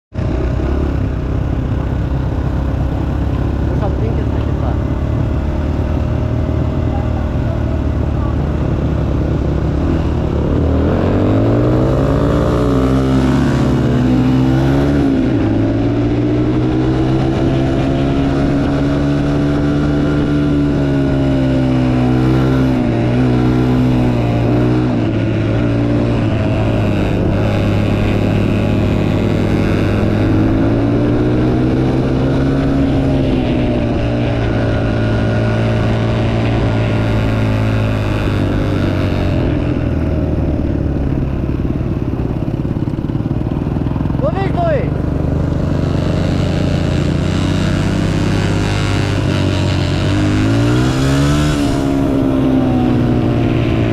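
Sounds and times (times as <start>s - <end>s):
motorbike engine revving: 0.1s - 53.9s.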